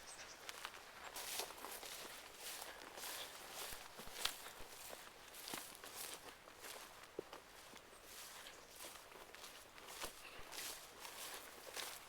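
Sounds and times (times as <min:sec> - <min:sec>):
footsteps of person walking: 0:00.5 - 0:12.0.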